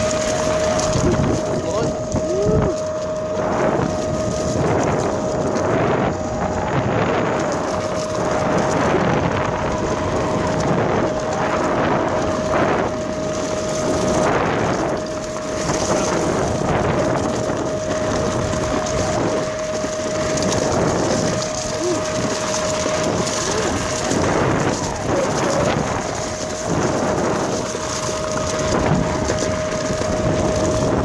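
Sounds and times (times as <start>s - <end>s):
electric motor whine: 0.0s - 31.0s
skateboard wheels rumbling on dirt: 0.0s - 31.0s
wind buffeting microphone: 0.0s - 31.0s.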